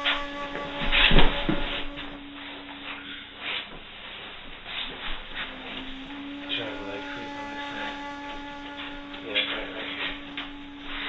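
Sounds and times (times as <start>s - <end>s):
held flute note: 0.0s - 11.0s.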